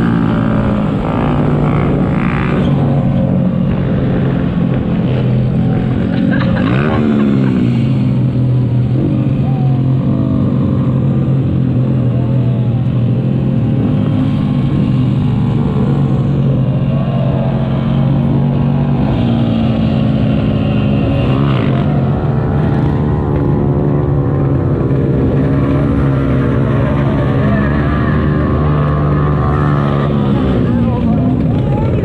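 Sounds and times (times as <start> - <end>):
small motorcycles revving: 0.0 - 32.0.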